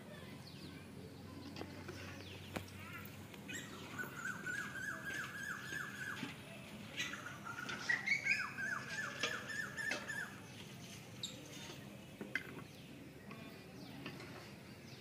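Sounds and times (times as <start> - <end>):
bird calling: 0.6 - 13.9.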